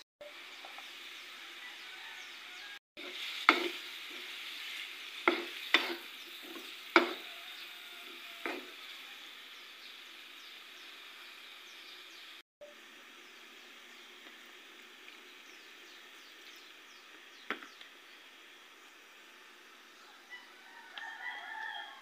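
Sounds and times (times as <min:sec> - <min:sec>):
squid sizzling in a wok: 0:00.2 - 0:22.0.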